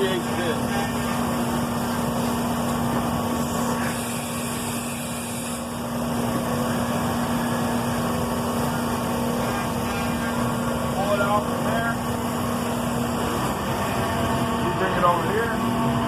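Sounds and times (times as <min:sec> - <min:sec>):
router mechanical hum: 0:00.0 - 0:16.0.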